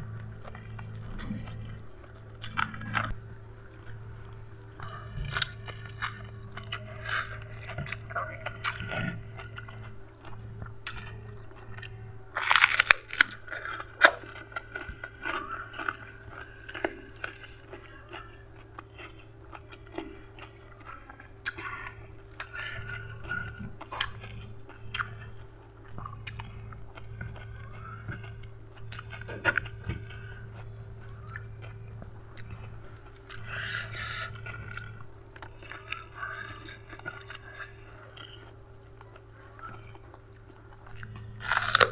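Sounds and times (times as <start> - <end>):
crisp crunching and chewing: 0.0 - 41.9
steady low hum: 0.0 - 41.9.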